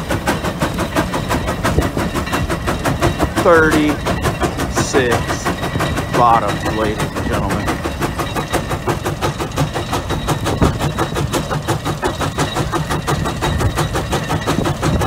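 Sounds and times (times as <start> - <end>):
steam traction engine exhaust beats: 0.0 - 15.0.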